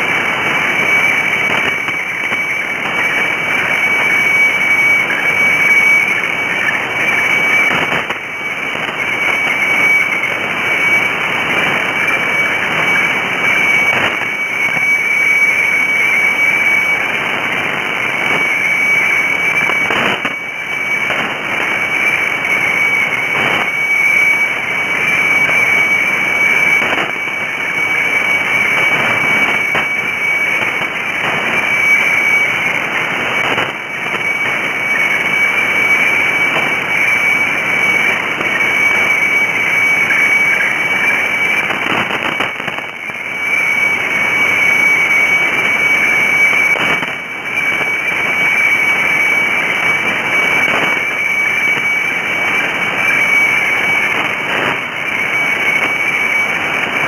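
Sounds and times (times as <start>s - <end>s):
high whistling radio tone: 0.0s - 57.0s
radio static hiss: 0.0s - 57.0s.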